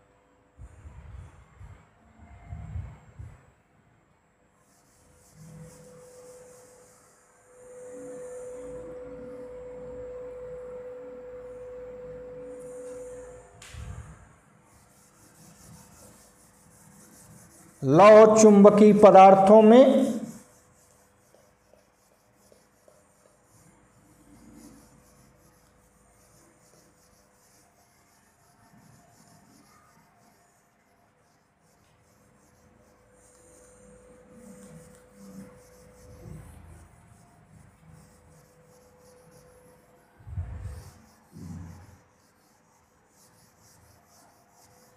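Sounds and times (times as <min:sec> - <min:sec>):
faint steady hum: 0:00.0 - 0:44.9
duster wiping a whiteboard: 0:04.6 - 0:44.9.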